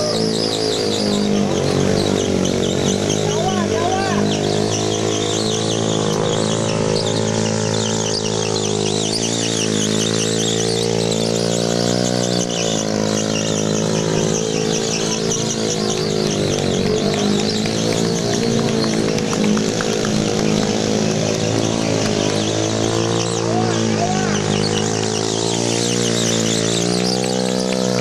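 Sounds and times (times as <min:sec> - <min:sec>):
motorcycle engine revving: 0:00.0 - 0:28.0
tyre squealing on pavement: 0:00.0 - 0:28.0.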